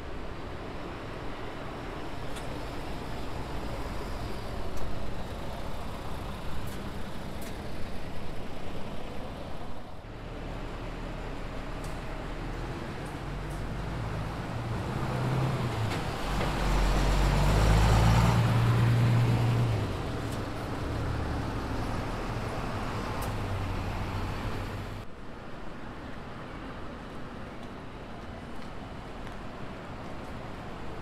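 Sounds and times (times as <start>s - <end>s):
bus engine hum: 0.0s - 25.1s
road noise: 0.0s - 31.0s.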